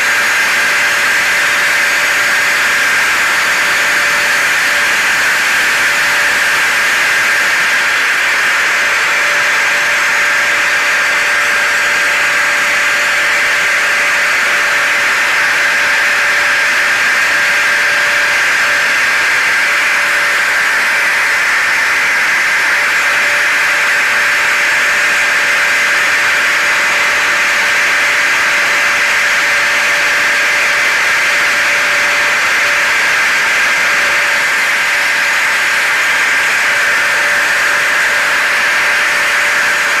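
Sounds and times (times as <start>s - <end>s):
hair dryer running: 0.0s - 40.0s
vacuum cleaner running: 0.0s - 40.0s.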